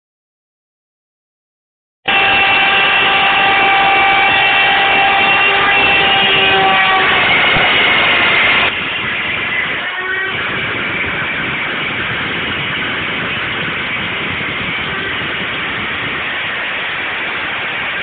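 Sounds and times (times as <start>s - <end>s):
rushing noise: 2.1s - 18.0s.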